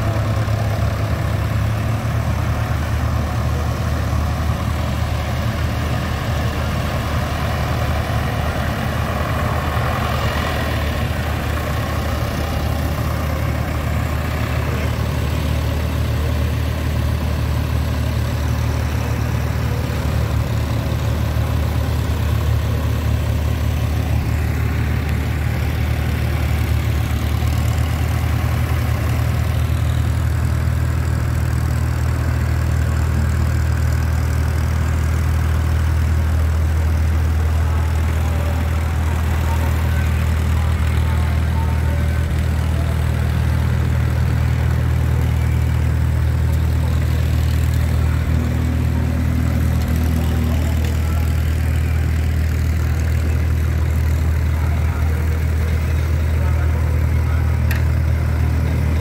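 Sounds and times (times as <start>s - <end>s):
large engine humming: 0.0s - 59.0s.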